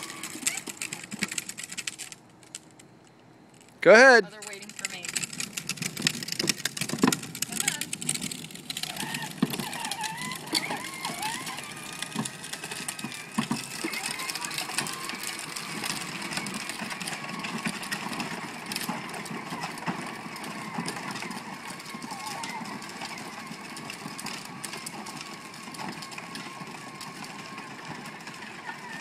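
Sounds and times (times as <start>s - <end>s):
electric toy motors whining: 0.0s - 2.2s, 4.3s - 29.0s
plastic wheels rolling on concrete: 0.0s - 29.0s.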